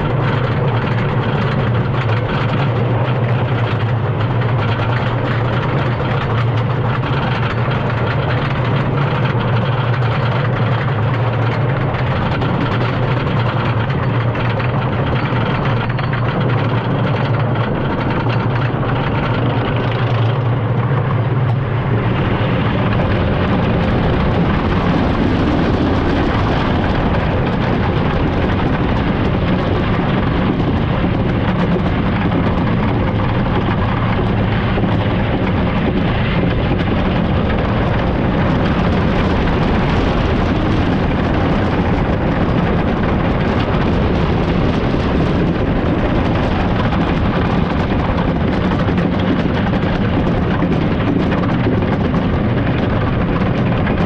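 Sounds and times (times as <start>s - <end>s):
roller coaster rumbling on wooden track: 0.0s - 54.0s.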